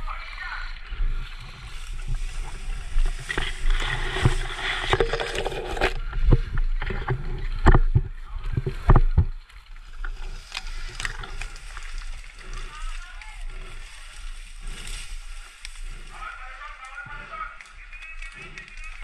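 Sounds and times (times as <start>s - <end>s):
grass and brush rustling: 0.0s - 19.0s.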